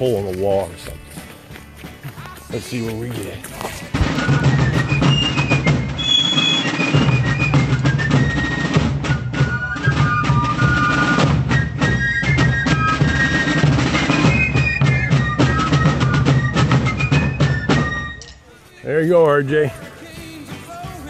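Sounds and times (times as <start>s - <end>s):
drums beating: 0.0s - 18.3s, 19.0s - 21.0s
shrill fifes playing melody: 2.5s - 21.0s.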